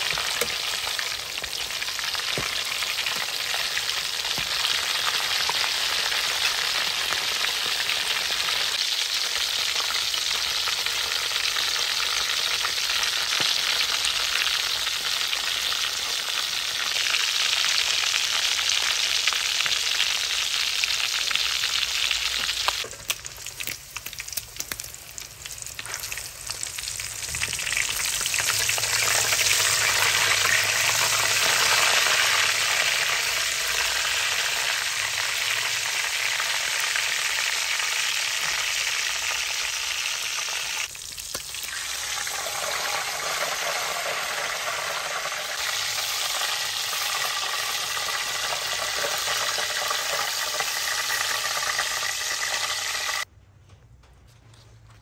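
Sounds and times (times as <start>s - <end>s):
deep-frying sizzle: 0.0s - 53.3s.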